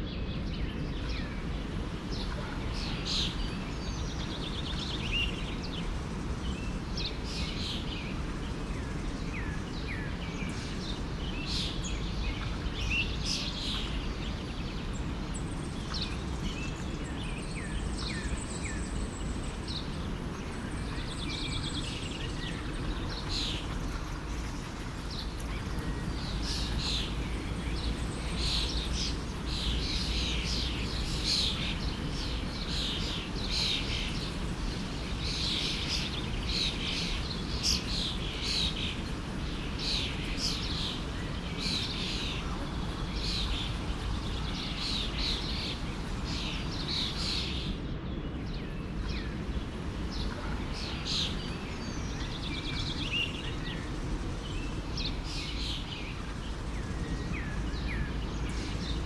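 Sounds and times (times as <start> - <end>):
small birds chirping and trilling: 0.0 - 59.0
stream rushing: 0.7 - 16.4, 19.6 - 47.7, 48.8 - 59.0.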